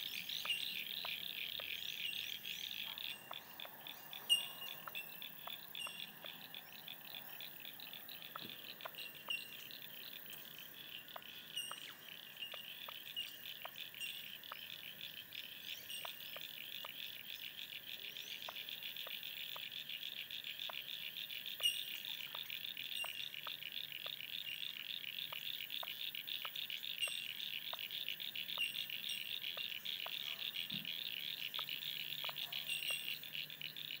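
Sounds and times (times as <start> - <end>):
faint ticks: 0.3 - 34.0.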